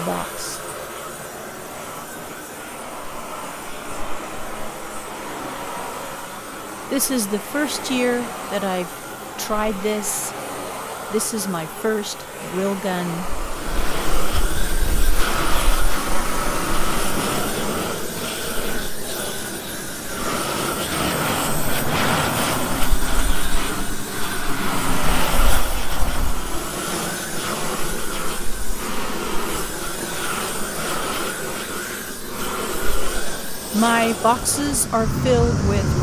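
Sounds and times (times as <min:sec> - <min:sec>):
propane torch flame rushing: 0:00.0 - 0:07.6, 0:08.2 - 0:11.2, 0:11.9 - 0:36.0.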